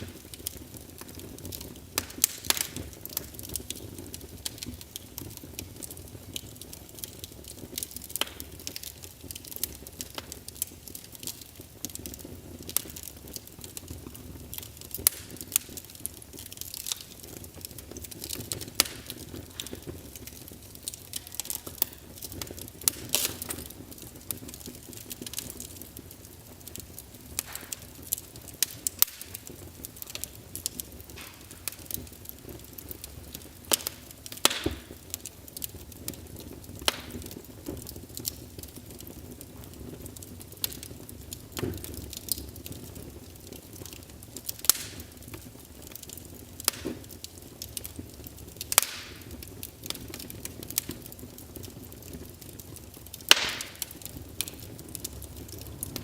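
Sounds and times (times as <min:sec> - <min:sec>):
flames hissing: 0:00.0 - 0:56.0
wood fire crackling and popping: 0:00.0 - 0:56.0.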